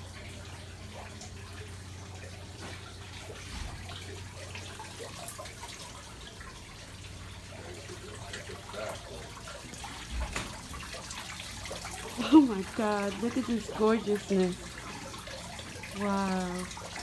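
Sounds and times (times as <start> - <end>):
running water trickling: 0.0 - 17.0
water drips and splashes: 0.0 - 17.0.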